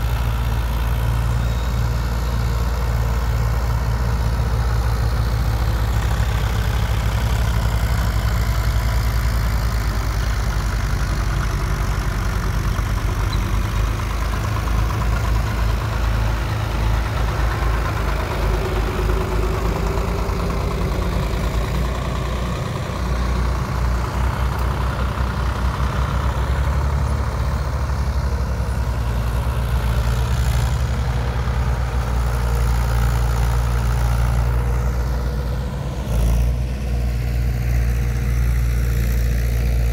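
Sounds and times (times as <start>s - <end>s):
tractor diesel engines rumbling: 0.0s - 39.9s.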